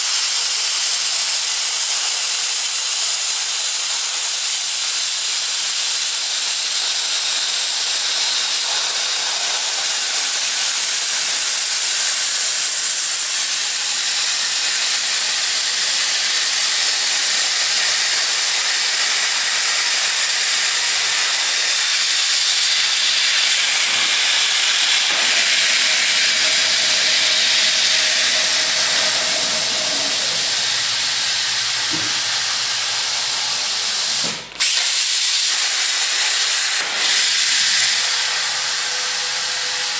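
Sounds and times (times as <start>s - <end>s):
plasma cutter hissing: 0.0s - 39.9s.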